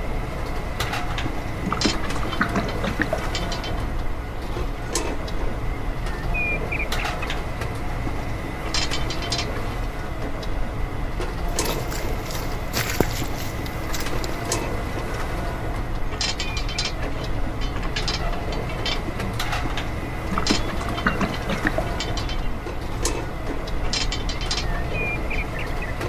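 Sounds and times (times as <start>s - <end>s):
steady low rumble: 0.0s - 25.8s.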